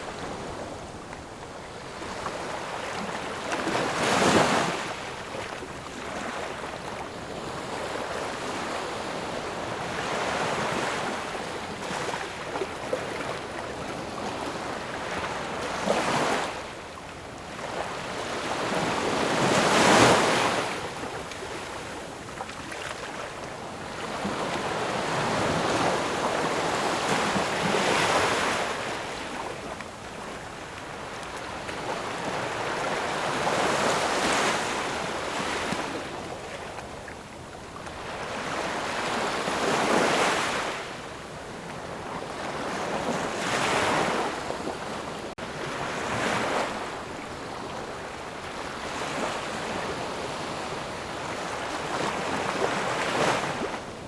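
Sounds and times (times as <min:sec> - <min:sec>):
ocean waves crashing on shore: 0:00.0 - 0:54.0.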